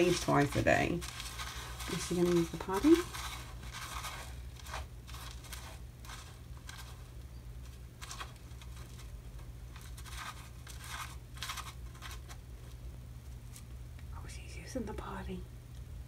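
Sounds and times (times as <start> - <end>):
kitten scratching in cat litter: 0.0 - 13.7
low steady hum: 0.0 - 16.0.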